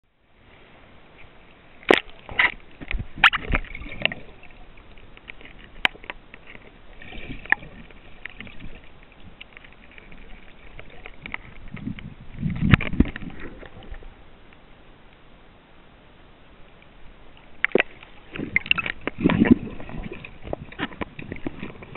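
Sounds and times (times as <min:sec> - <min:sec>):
muffled underwater water sloshing: 0:00.2 - 0:21.9.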